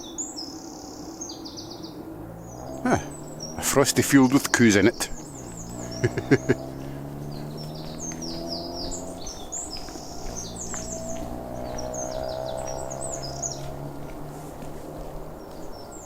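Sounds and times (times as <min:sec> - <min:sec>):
small birds chirping: 0:00.0 - 0:16.0
steady low hum: 0:02.0 - 0:16.0.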